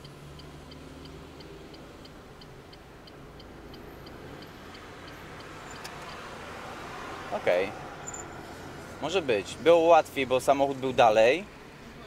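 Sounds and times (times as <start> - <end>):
low engine and road hum: 0.0 - 12.0
turn signal ticking: 0.0 - 12.0.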